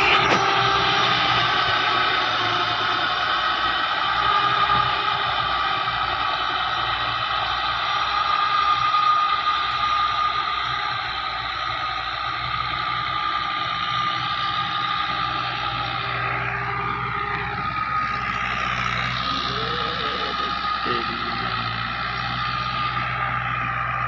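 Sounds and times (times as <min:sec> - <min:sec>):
high whine of rotavator: 0:00.0 - 0:24.0
tractor engine running under load: 0:00.0 - 0:24.0.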